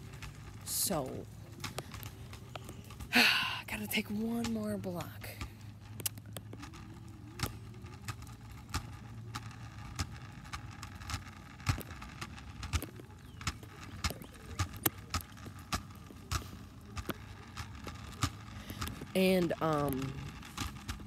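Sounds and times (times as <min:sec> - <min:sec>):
hoverboard rolling on pavement: 0:00.0 - 0:21.0
low steady hum: 0:00.0 - 0:21.0.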